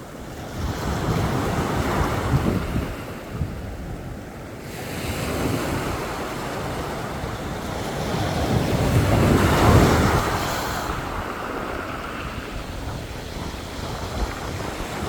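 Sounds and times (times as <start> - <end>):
sea waves washing onto beach: 0.0 - 15.0
wind buffeting microphone: 0.0 - 15.0.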